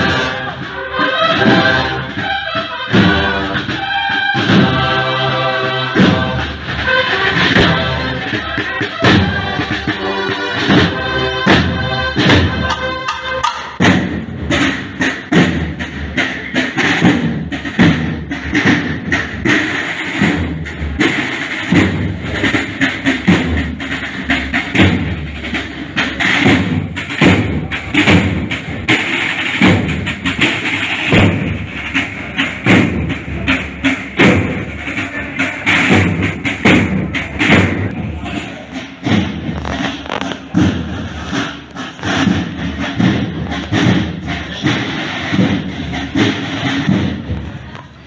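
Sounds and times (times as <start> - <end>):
snare drums playing march cadence: 0.0 - 47.8.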